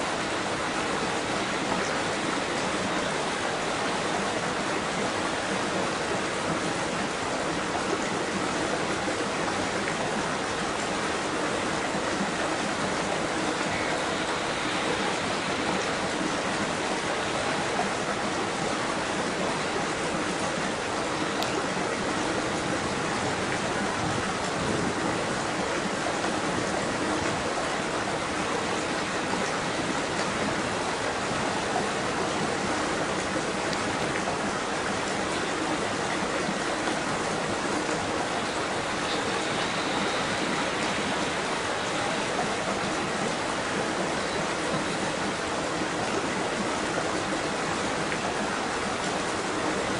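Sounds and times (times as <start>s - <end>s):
water rushing: 0.0s - 49.9s.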